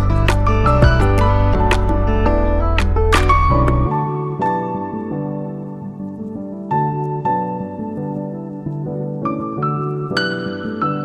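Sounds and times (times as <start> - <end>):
soft keyboard music: 0.0 - 11.0.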